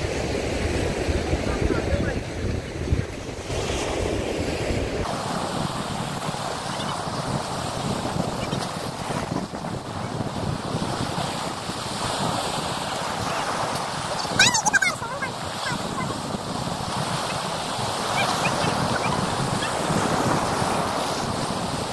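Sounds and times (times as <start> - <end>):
waves splashing against pier: 0.0 - 21.9
wind buffeting microphone: 0.0 - 21.9.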